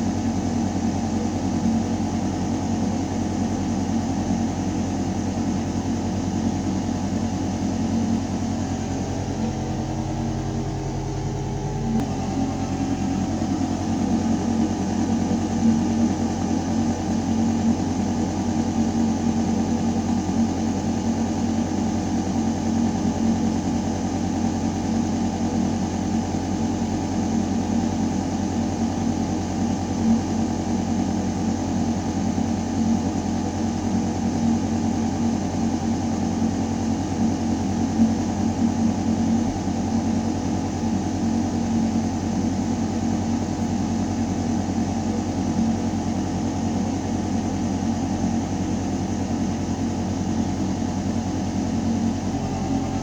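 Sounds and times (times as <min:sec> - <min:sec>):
ventilation system hum: 0:00.0 - 0:53.0.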